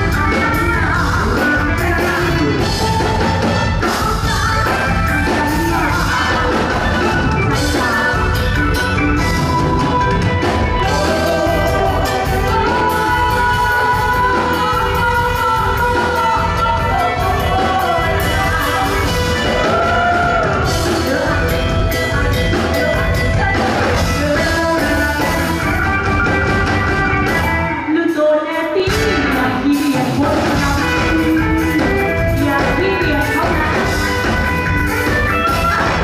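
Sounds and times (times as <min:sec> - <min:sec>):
lead singer: 0:00.0 - 0:36.0
live rock band: 0:00.0 - 0:36.0.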